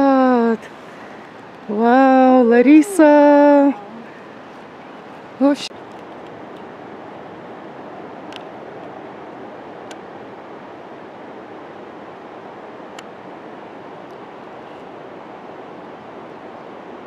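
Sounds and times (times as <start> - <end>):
waterfall rushing: 0.0 - 15.4.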